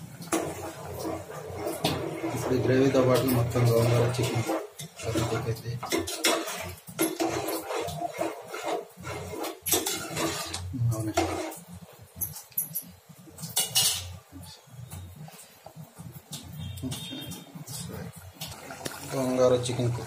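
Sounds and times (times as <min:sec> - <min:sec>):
ladle stirring in metal pot: 0:00.0 - 0:20.0.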